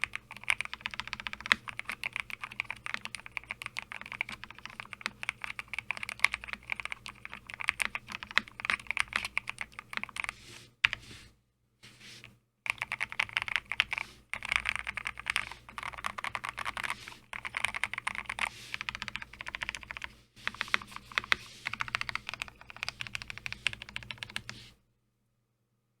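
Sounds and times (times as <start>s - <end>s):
mechanical keyboard typing: 0.0s - 10.3s, 12.7s - 24.6s.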